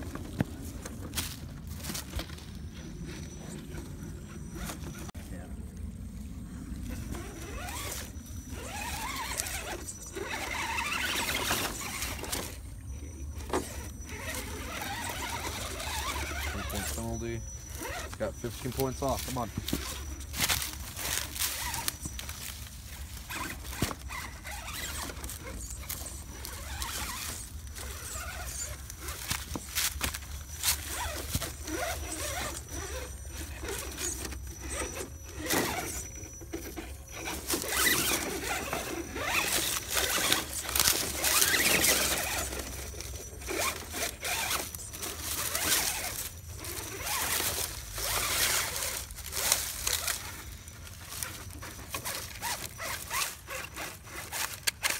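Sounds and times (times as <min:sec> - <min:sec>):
rc car motor whining: 0:00.0 - 0:05.1, 0:06.6 - 0:54.9
tyres crunching through leaves: 0:00.0 - 0:54.9
tyres scraping on stone: 0:06.9 - 0:54.9.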